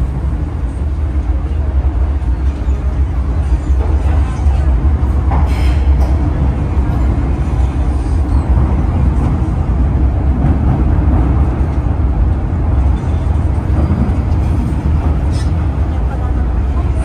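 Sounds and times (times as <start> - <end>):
metro train rumbling: 0.0 - 17.0.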